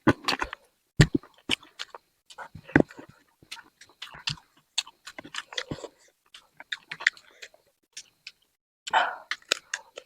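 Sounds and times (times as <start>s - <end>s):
close chewing and mouth smacks: 0.0s - 10.0s.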